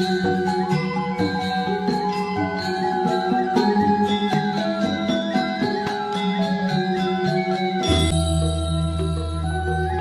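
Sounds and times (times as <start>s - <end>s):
gamelan metallophones ringing: 0.0s - 10.0s.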